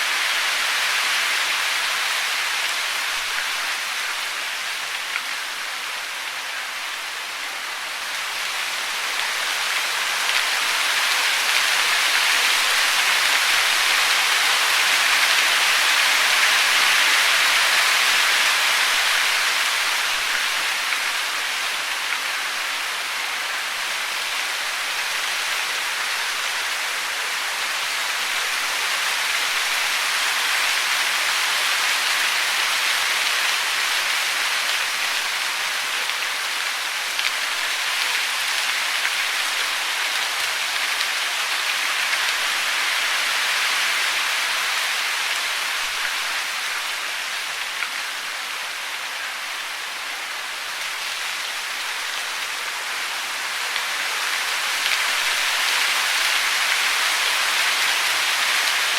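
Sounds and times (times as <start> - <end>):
falling water hiss: 0.0 - 58.9.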